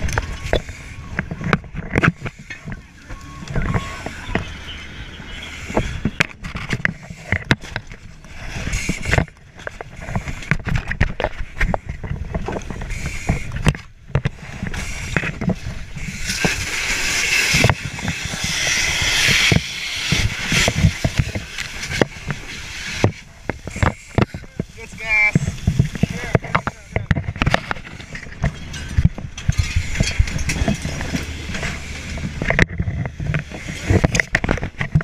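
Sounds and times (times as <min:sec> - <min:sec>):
gear and tools knocking and scraping: 0:00.0 - 0:35.0.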